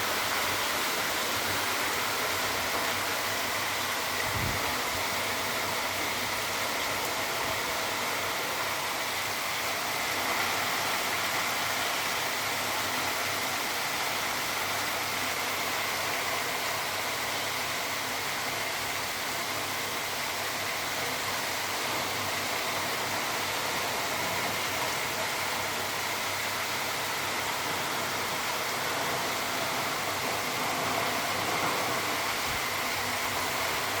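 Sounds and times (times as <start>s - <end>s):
steady rainfall: 0.0s - 34.0s.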